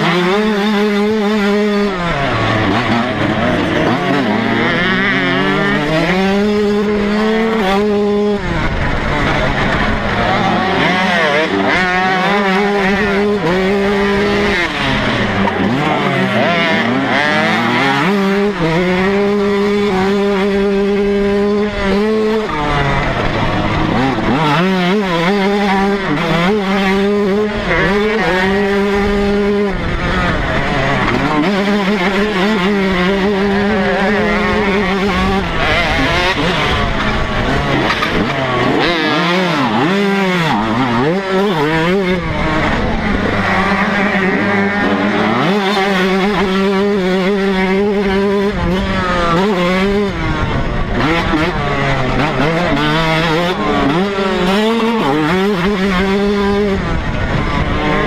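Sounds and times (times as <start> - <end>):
motocross engine racing: 0.0 - 58.0.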